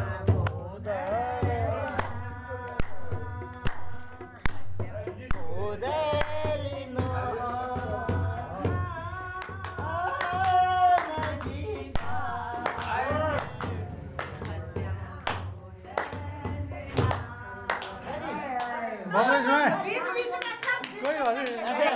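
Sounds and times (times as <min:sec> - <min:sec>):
woman singing: 0:00.0 - 0:18.1
people clapping along: 0:00.0 - 0:19.0, 0:19.9 - 0:21.9.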